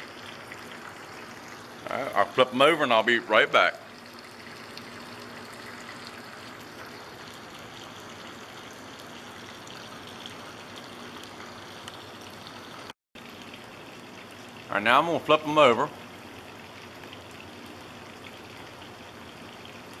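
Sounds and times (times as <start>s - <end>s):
meat frying in hot oil: 0.0s - 20.0s.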